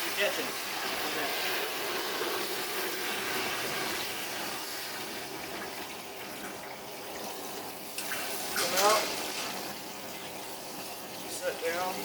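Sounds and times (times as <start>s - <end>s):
hot oil bubbling and sizzling: 0.0s - 12.0s.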